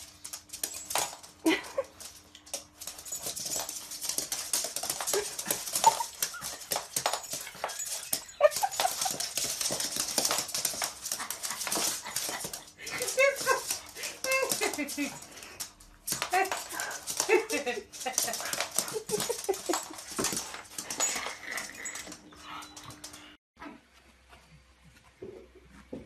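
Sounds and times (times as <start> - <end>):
dog claws clicking on wooden floor: 0.0 - 22.2.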